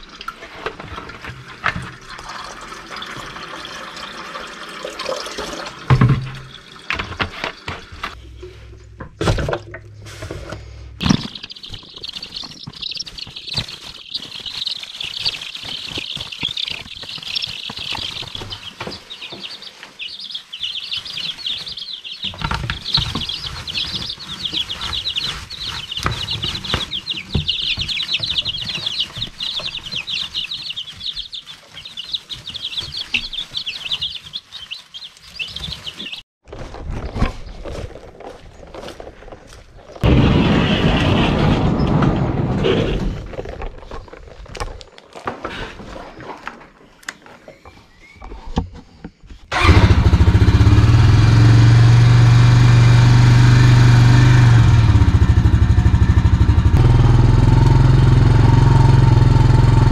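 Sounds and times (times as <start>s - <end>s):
baby chicks peeping: 5.1s - 36.2s, 42.8s - 59.9s
scratching in wood shavings: 5.1s - 59.9s.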